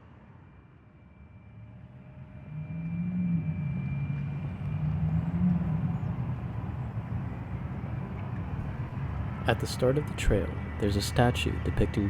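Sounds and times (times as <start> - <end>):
vehicle engine hum: 1.2 - 12.0
city traffic rumble: 2.2 - 12.0.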